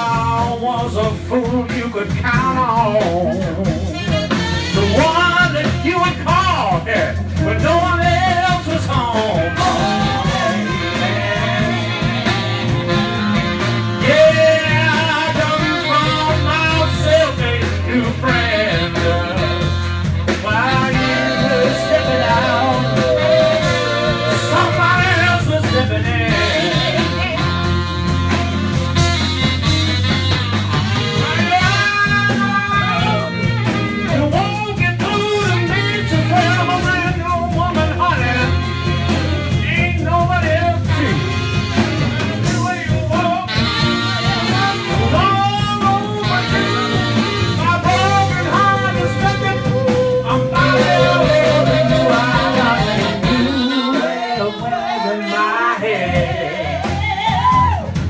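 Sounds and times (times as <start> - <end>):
bass line: 0.0 - 58.0
drums: 0.0 - 58.0
lead instrument bending melody: 7.4 - 55.6.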